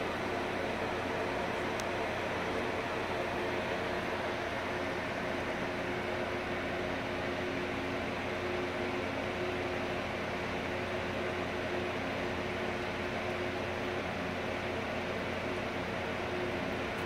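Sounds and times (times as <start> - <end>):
faint machine hum: 0.0 - 17.0.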